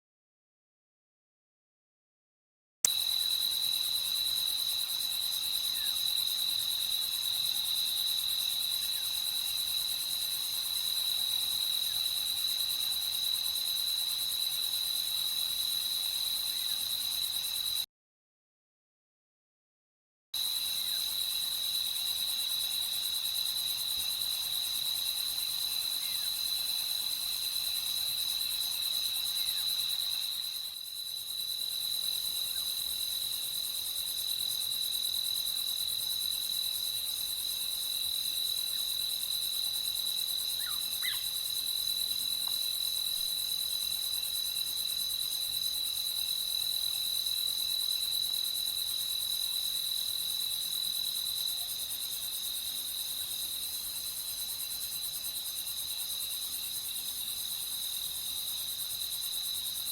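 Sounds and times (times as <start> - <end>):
crickets chirping: 2.9 - 17.8, 20.4 - 59.9.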